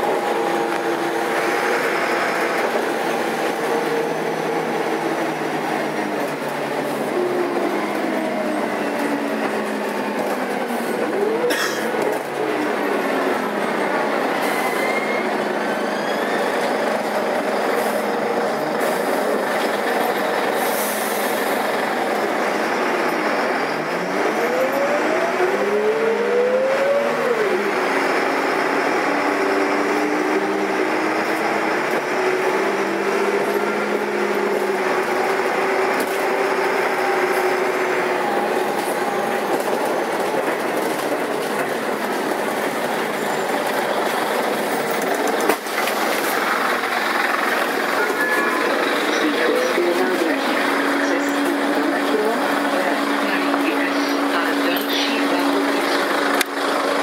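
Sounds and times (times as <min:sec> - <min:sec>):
bus diesel engine running: 0:00.0 - 0:57.0
road noise: 0:00.0 - 0:57.0.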